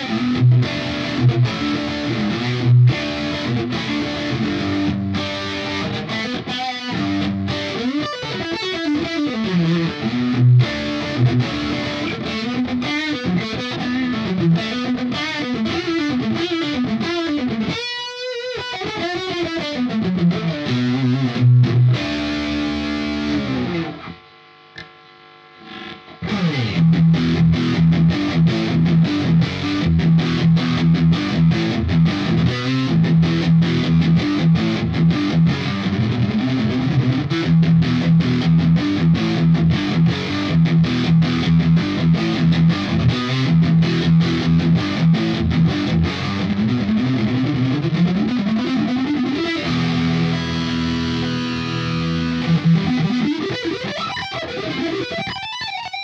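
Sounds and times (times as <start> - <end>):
distorted electric guitar riff: 0.0 - 56.0.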